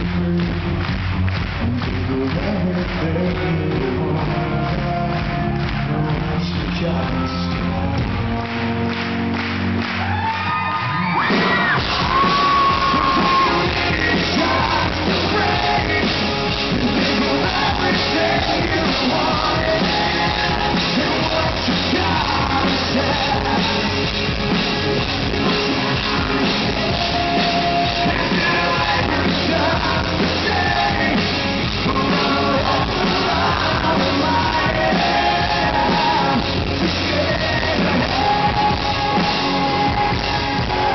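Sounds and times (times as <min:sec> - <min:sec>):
drums: 0:00.0 - 0:40.9
electric guitars: 0:00.0 - 0:40.9
lead singer singing: 0:01.7 - 0:08.3, 0:11.3 - 0:40.9.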